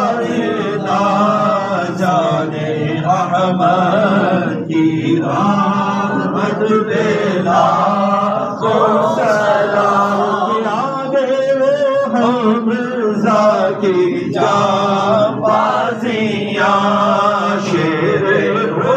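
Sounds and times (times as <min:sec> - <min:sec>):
men chanting: 0:00.0 - 0:18.9.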